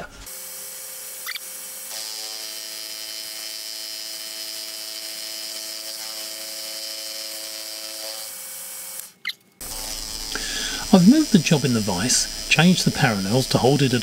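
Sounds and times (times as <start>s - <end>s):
milling machine cutting steel: 0.3s - 14.0s.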